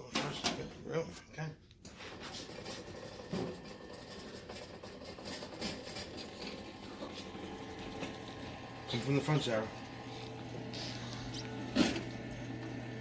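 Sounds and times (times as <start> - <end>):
popcorn machine motor humming: 1.9 - 13.0.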